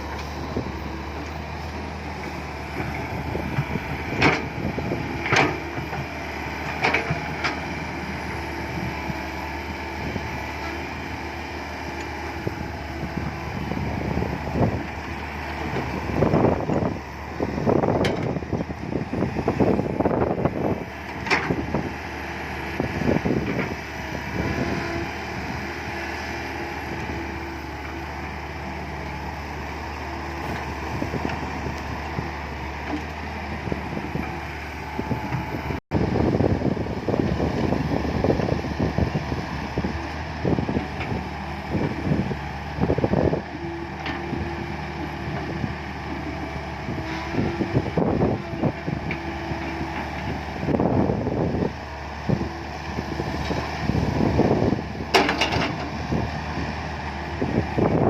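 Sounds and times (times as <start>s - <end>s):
excavator diesel engine running: 0.0s - 58.0s
wind buffeting microphone: 0.0s - 58.0s.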